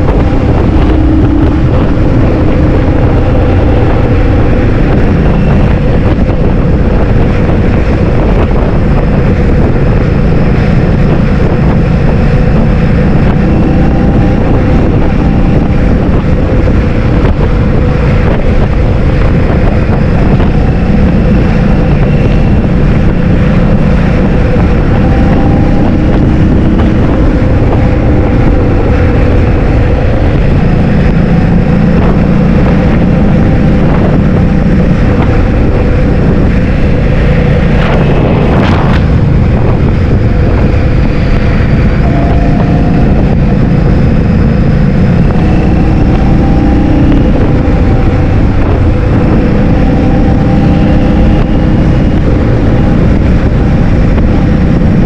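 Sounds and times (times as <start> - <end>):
scooter motor hum: 0.0 - 55.0
wind buffeting microphone: 0.0 - 55.0.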